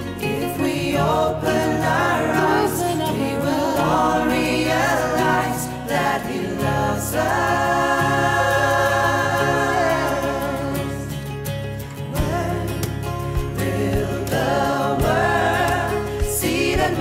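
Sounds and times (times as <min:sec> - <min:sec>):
worship song singing: 0:00.0 - 0:17.0.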